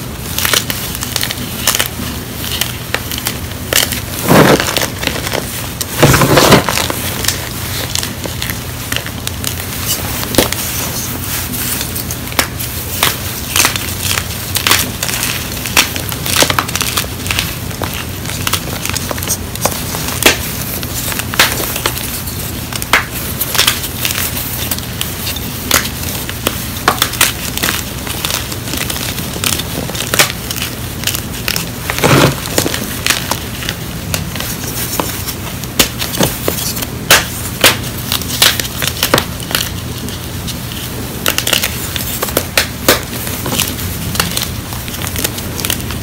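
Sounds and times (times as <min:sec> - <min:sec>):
chalk pieces snapping: 0:00.2 - 0:46.0.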